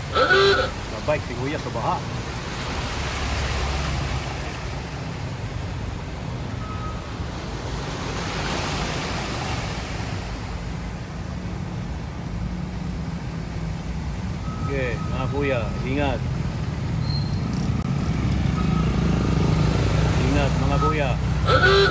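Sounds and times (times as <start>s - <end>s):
low engine hum: 0.0s - 21.9s
water rushing under car: 0.0s - 21.9s.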